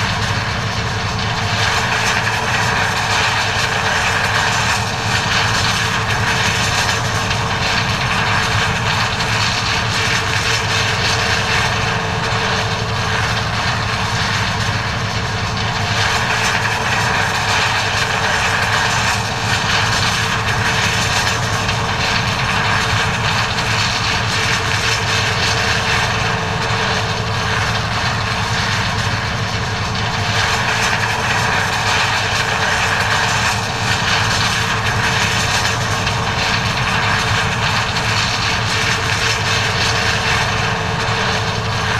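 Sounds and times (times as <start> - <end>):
diesel engine drone: 0.0 - 41.9
threshing machinery hum: 0.0 - 41.9.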